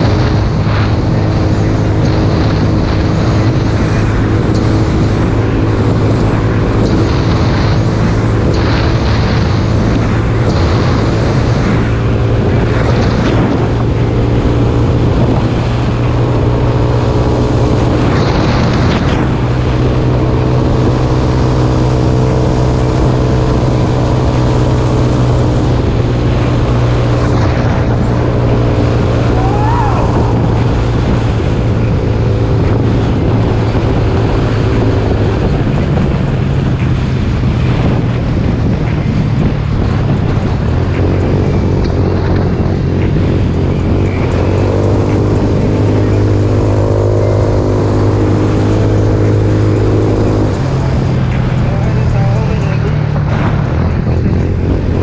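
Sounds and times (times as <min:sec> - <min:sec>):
trike engine running: 0:00.0 - 0:55.0
wind noise on microphone: 0:00.0 - 0:55.0.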